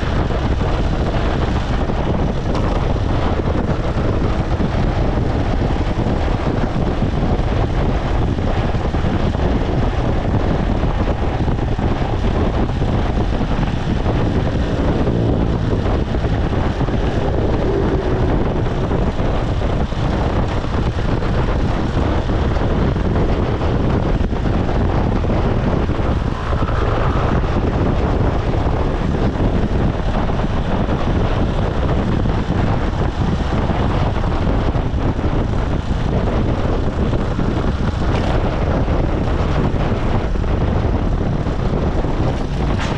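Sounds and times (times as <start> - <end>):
motorcycle engine running: 0.0 - 42.9
road noise: 0.0 - 42.9
wind on microphone: 0.0 - 42.9.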